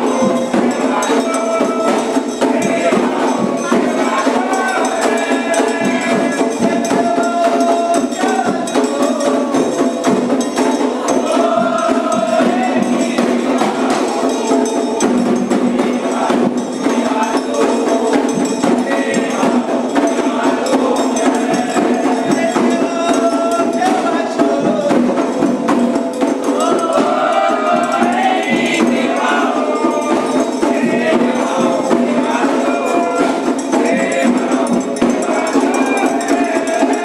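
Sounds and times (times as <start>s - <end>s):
group of voices singing: 0.0s - 37.0s
hand percussion: 0.0s - 37.0s.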